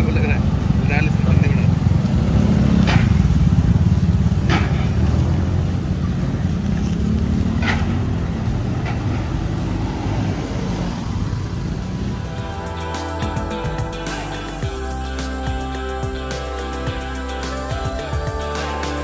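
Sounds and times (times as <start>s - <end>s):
low engine rumble: 0.0s - 19.0s
vehicles driving up ramp: 0.0s - 19.0s.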